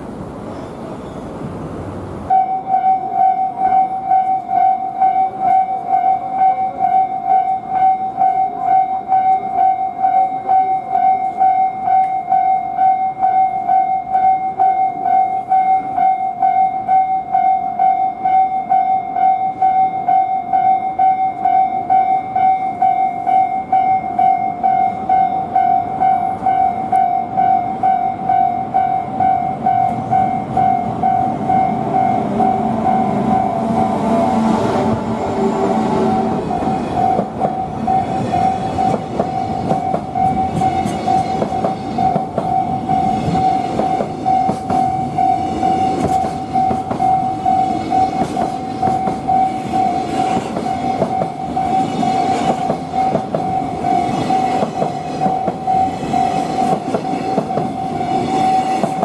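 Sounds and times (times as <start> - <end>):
level-crossing electronic bell: 2.3 - 34.4, 35.9 - 59.0.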